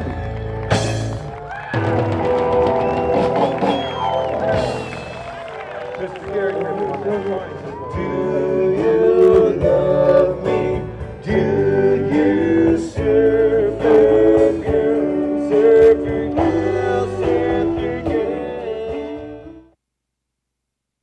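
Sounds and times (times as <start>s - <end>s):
rock and roll band playing: 0.0s - 19.6s.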